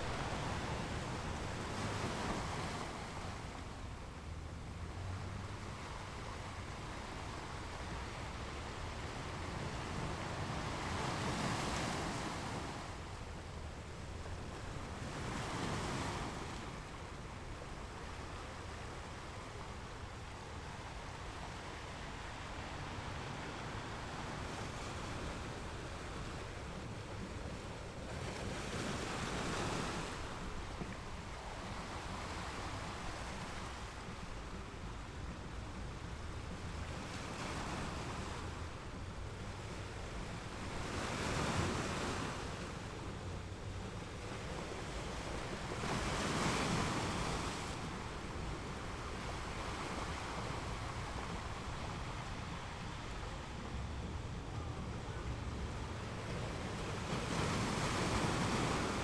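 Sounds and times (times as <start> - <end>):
low rumble of surf: 0.0 - 59.0
waves breaking on shore: 0.0 - 59.0.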